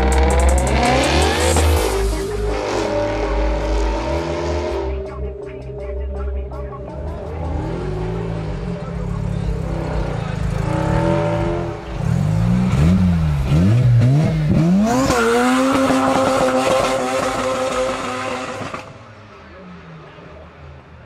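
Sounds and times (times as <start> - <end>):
car engine revving: 0.0 - 20.4.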